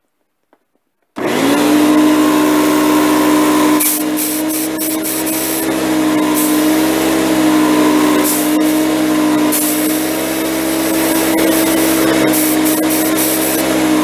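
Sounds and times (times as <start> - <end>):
air compressor humming: 1.2 - 14.0
compressed air hissing: 2.4 - 14.0.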